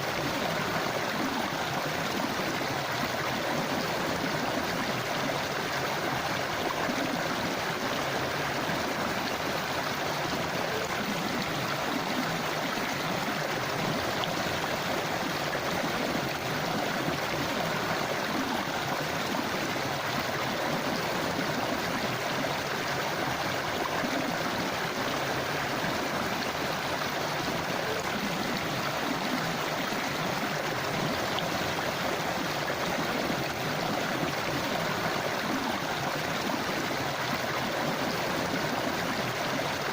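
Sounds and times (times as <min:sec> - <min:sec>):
river flowing and gurgling: 0:00.0 - 0:39.9.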